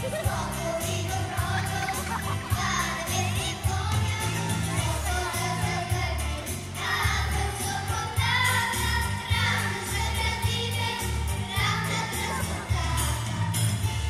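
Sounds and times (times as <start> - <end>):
children's group singing: 0.0 - 14.0
pop backing track with bass beat: 0.0 - 14.0.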